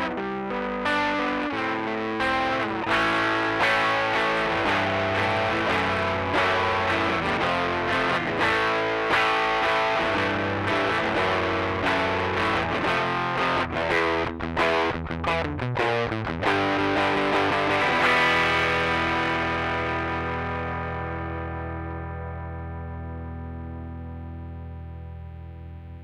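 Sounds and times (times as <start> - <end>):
overdriven electric guitar: 0.0 - 26.0.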